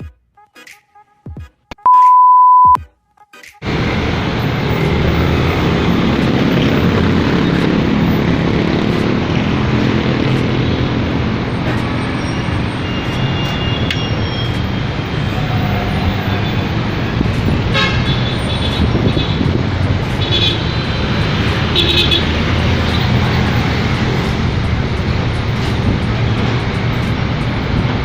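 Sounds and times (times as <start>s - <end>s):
road traffic noise: 3.6s - 28.0s.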